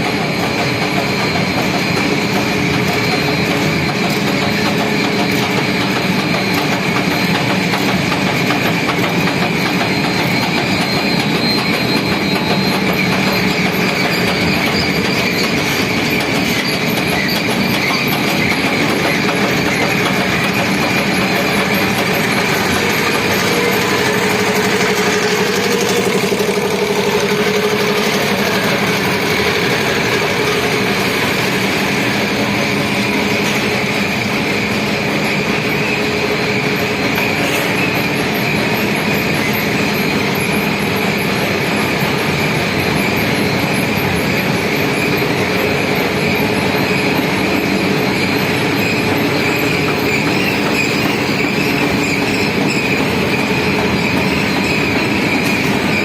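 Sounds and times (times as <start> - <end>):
loud mechanical din of machinery: 0.0 - 56.0
machine whining tones: 0.0 - 56.0.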